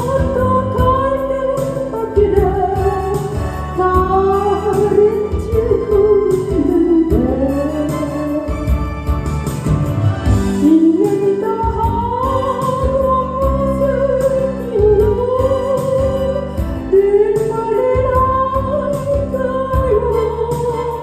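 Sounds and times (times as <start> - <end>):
full band backing: 0.0 - 21.0
lead melody of sliding held notes: 0.0 - 21.0.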